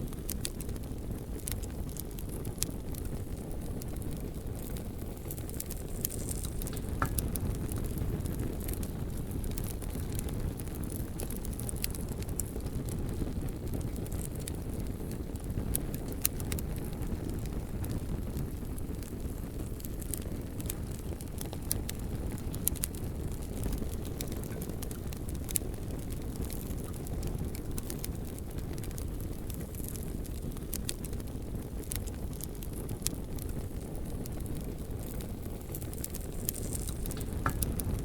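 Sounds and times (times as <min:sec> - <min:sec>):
bonfire crackling and popping: 0:00.0 - 0:38.0.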